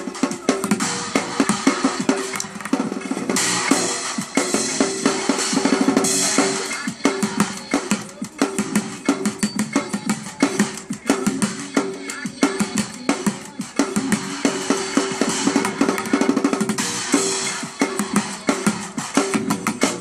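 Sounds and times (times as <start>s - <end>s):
drumming on buckets and barrels: 0.0s - 20.0s.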